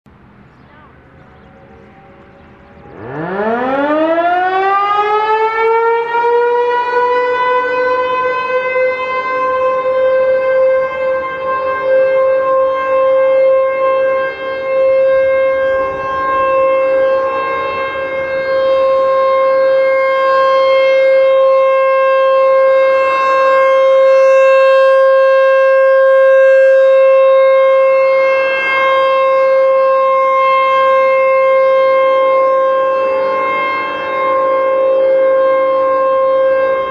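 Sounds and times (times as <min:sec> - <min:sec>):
electromechanical siren wailing: 0:00.9 - 0:36.9.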